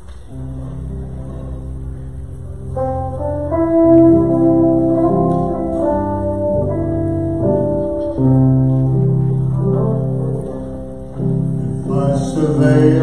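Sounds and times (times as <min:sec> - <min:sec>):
long held guitar notes: 0:00.0 - 0:13.0
low bass note: 0:00.3 - 0:13.0.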